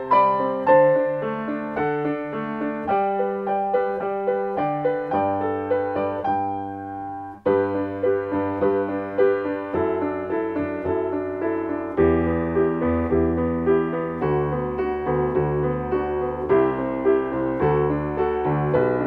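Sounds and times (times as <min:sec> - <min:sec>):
solo piano playing: 0:00.0 - 0:19.0.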